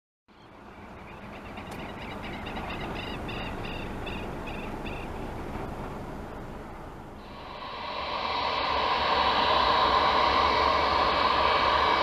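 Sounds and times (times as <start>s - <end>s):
low outdoor rumble: 0.3s - 12.0s.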